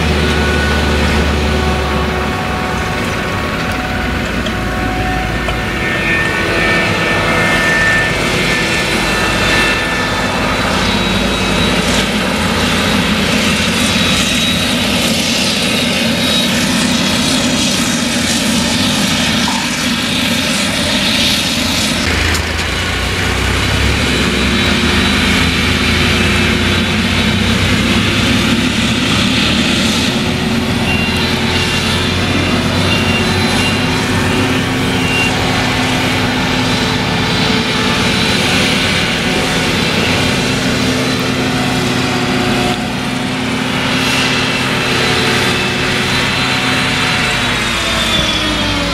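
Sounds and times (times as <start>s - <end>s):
deep engine running under load: 0.0s - 48.9s
tractor hauling trailer: 0.0s - 48.9s.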